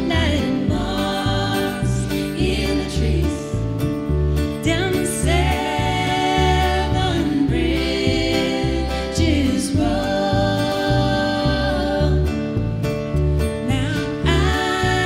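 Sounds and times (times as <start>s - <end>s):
women singing in harmony: 0.0s - 4.0s, 4.6s - 12.8s, 13.6s - 15.0s
acoustic guitar: 0.0s - 15.0s
upright bass plucking: 0.0s - 15.0s.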